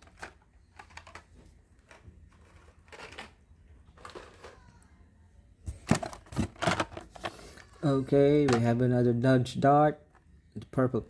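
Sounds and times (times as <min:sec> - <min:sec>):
low steady hum: 0:00.0 - 0:11.0
toy cars and cardboard handling: 0:00.0 - 0:11.0.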